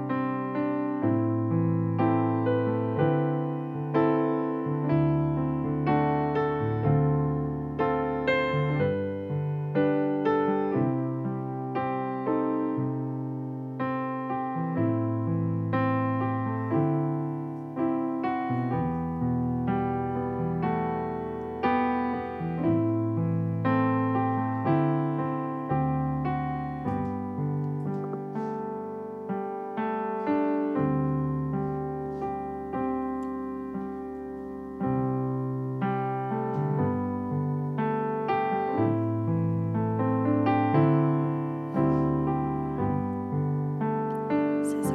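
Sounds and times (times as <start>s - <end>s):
piano chords on keyboard: 0.0s - 44.9s.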